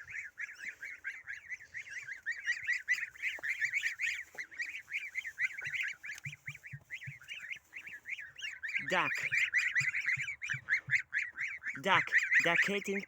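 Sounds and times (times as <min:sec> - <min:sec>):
fowl high-pitched calls: 0:00.0 - 0:13.0.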